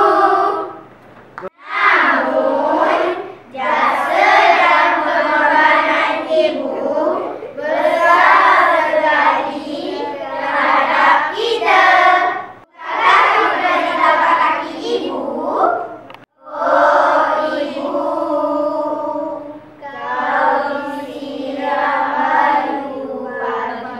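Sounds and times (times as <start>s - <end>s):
children chanting in unison: 0.0s - 0.8s, 1.5s - 23.9s.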